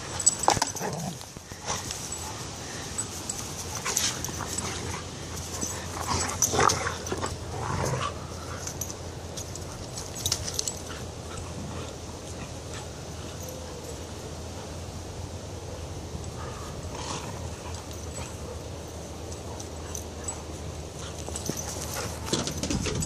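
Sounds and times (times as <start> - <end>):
dogs scuffling: 0.0 - 14.0, 16.4 - 23.0.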